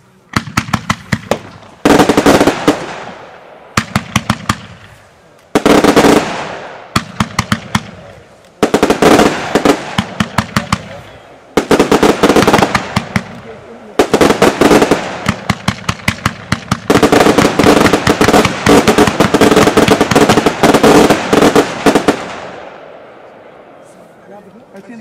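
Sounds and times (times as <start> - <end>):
firework sharp cracks: 0.2 - 23.7.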